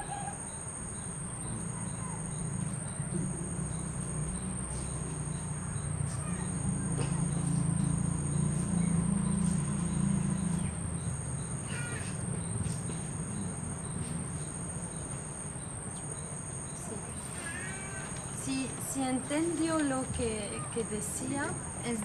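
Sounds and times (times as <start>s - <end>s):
bird chirping: 0.0s - 22.0s
insects calling: 0.0s - 22.0s.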